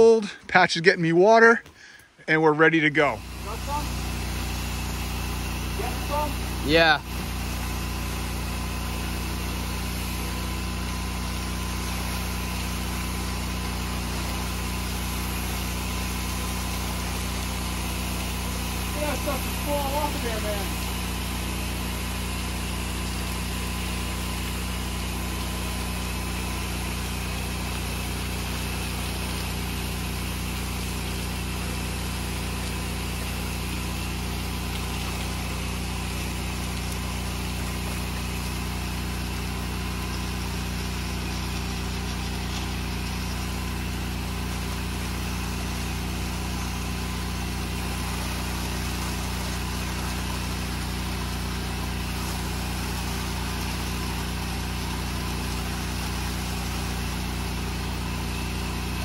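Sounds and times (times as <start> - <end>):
pressure washer engine running: 2.7 - 59.0
high-pressure water jet hissing: 3.1 - 59.0.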